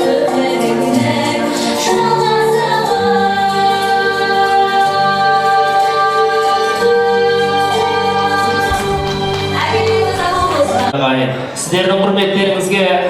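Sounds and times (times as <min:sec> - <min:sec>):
woman singing: 0:00.0 - 0:10.9
musical accompaniment: 0:00.1 - 0:11.7.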